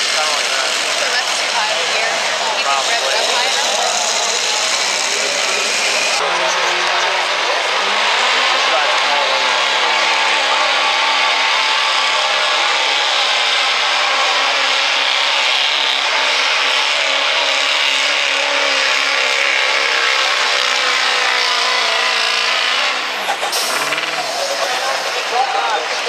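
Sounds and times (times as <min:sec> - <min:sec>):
diesel engine roaring under load: 0:00.0 - 0:26.0.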